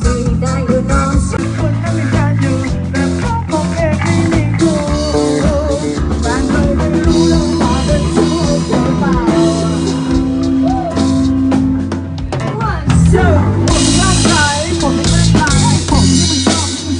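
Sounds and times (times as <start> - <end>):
person singing: 0.0 - 11.6, 12.3 - 16.9
drum kit: 0.0 - 16.9
guitar: 0.0 - 16.9.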